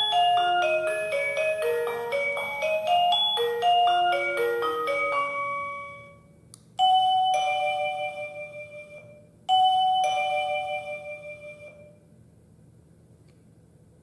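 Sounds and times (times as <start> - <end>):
electronic chime melody: 0.0 - 12.0
two-note ding-dong chime: 0.0 - 12.0.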